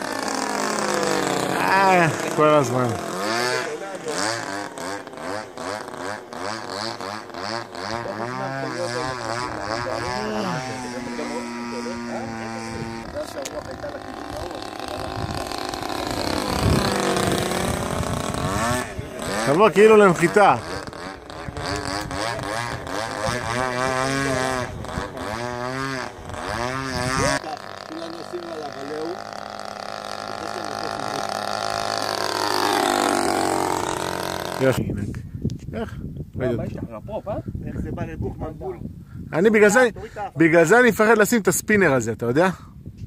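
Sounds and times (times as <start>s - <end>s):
model plane engine: 0.0s - 34.8s.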